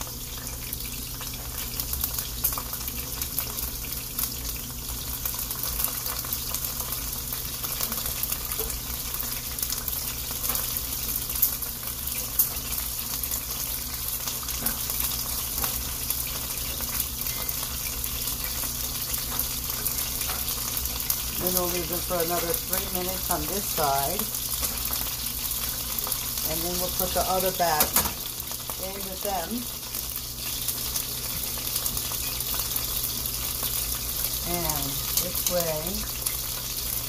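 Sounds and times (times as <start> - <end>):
meat sizzling in a skillet: 0.0 - 37.0.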